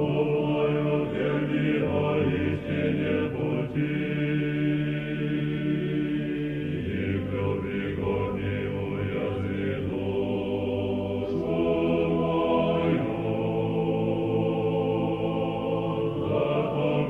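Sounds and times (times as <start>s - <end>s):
choir singing a chant: 0.0s - 17.0s.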